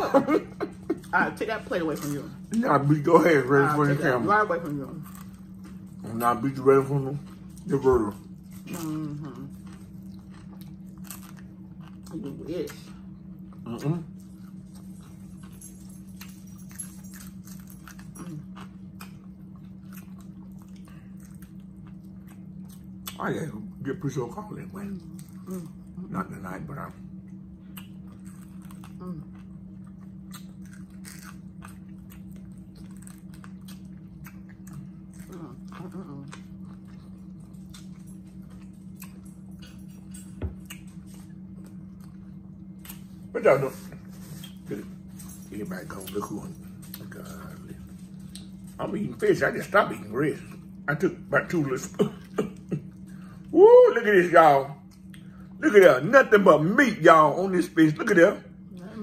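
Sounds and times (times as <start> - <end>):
low electrical hum: 0.0 - 59.0
chewing and lip-smacking: 3.8 - 23.8, 24.6 - 26.4, 27.1 - 53.5, 54.8 - 55.6.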